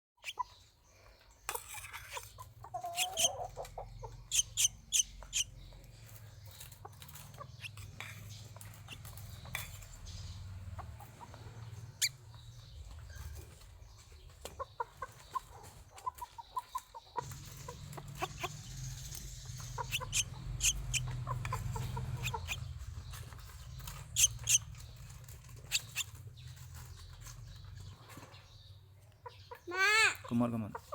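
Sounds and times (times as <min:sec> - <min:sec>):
pet bird calls: 0:00.2 - 0:00.8, 0:01.6 - 0:30.9.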